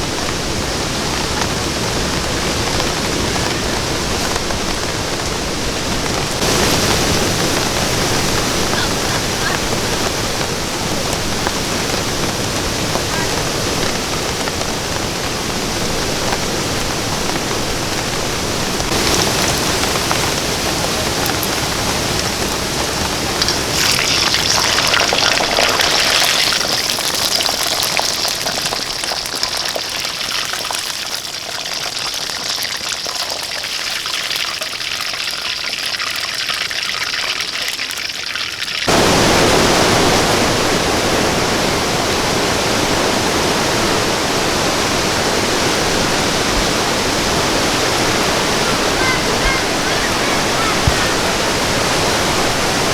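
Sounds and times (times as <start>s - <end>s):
rushing water: 0.0s - 52.9s.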